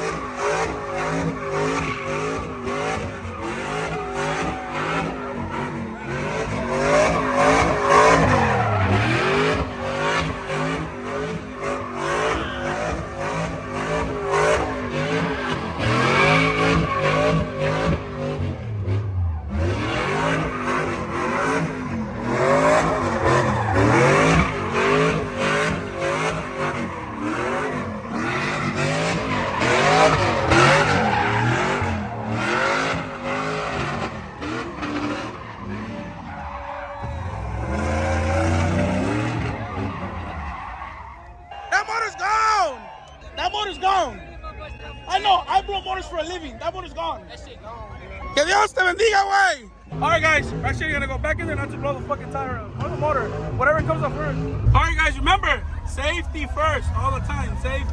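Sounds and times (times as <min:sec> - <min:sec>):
truck engine revving: 0:00.0 - 0:40.9, 0:49.9 - 0:57.9
tires squealing: 0:00.0 - 0:57.9.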